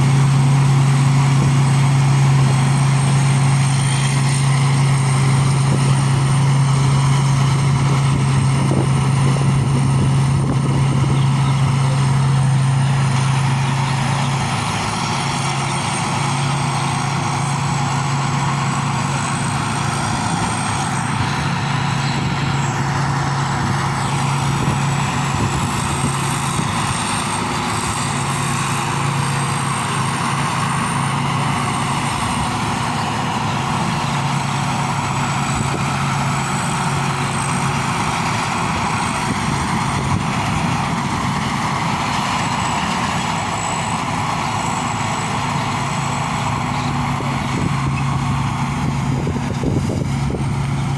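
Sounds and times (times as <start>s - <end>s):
combine harvester engine running: 0.0s - 50.9s.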